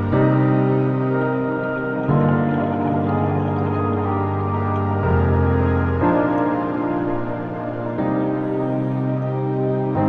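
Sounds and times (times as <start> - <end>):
slow ambient synth chords: 0.0 - 10.0.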